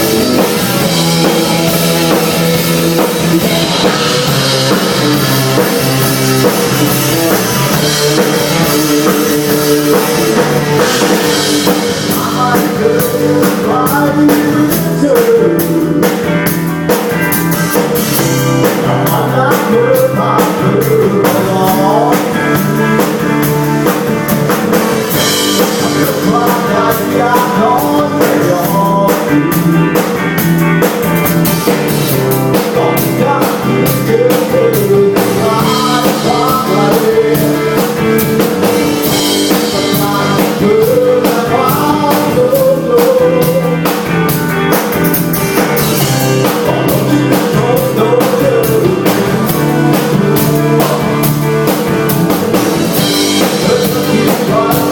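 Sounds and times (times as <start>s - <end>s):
person singing: 0.0s - 17.0s, 18.0s - 23.5s, 25.0s - 30.2s, 31.6s - 44.4s, 45.6s - 54.9s
live rock band playing: 0.0s - 54.9s.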